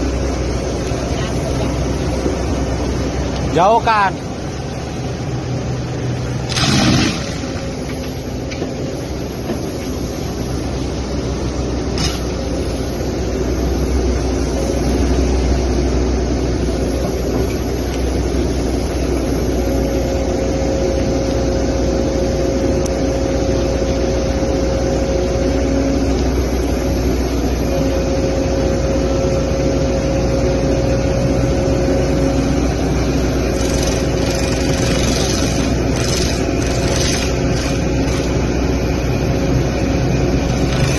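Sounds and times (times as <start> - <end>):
steady whine: 0.0 - 40.9.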